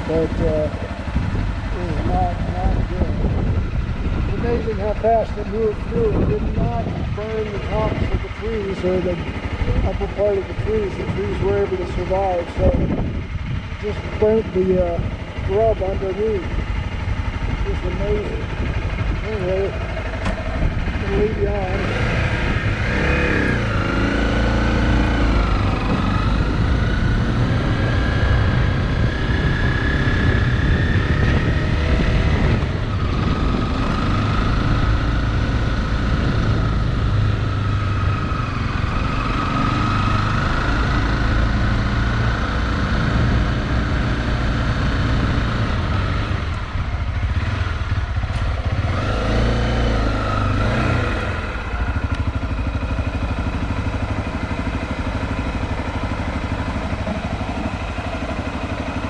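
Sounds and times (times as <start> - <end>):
engine and road noise: 0.0 - 59.0.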